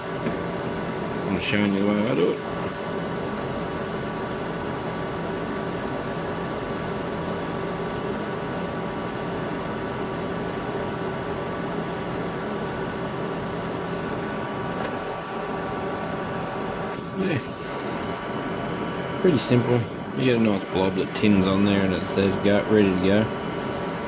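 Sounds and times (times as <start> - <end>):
small fan humming: 0.0 - 24.0.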